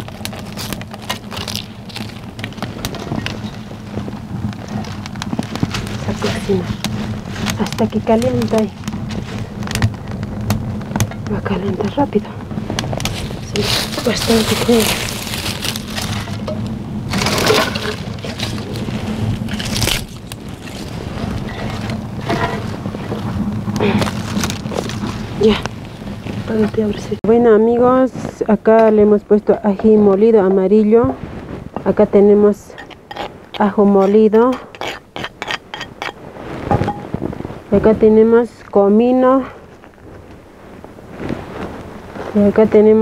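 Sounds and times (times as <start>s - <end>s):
low hum: 0.0s - 42.9s
wood fire crackling and popping: 0.0s - 43.0s.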